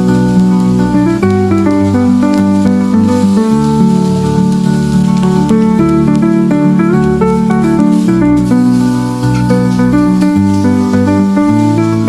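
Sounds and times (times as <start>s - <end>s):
melody of short pitched notes: 0.0s - 12.0s
sustained bass line: 0.0s - 12.0s.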